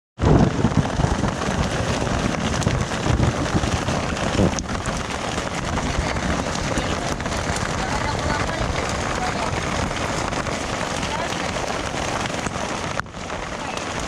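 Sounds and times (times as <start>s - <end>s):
wind rumbling on microphone: 0.2s - 14.0s
heavy rain falling: 0.4s - 14.0s.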